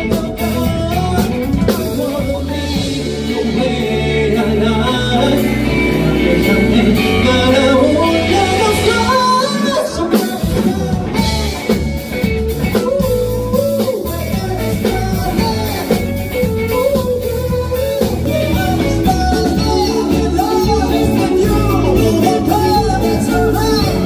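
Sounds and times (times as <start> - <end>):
band playing guitar bass and drums: 0.0 - 24.0
person singing: 0.0 - 24.0.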